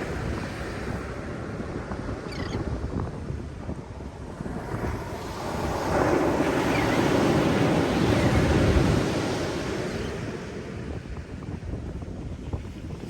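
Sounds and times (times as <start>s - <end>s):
ocean waves washing on shore: 0.0s - 13.0s
wind buffeting microphone: 0.0s - 13.0s.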